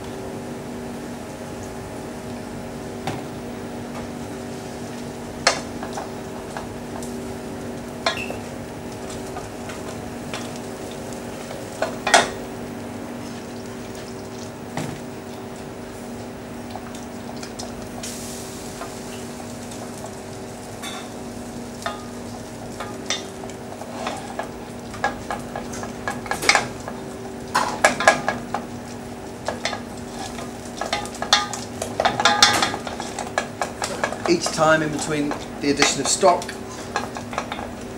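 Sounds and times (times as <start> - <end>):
steady hum: 0.0 - 37.9.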